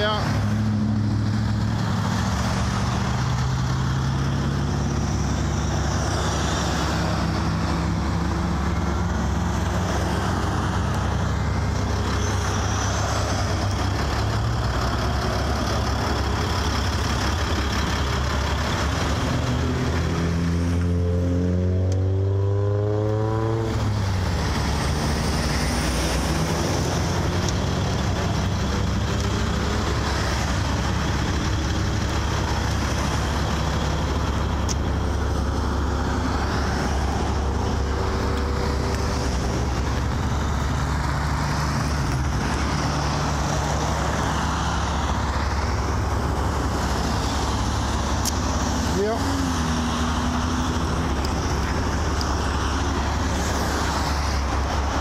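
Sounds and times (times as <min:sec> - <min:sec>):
cars passing: 0:00.0 - 0:55.0
tyre noise on wet road: 0:00.0 - 0:55.0
vehicle engine accelerating: 0:00.0 - 0:55.0.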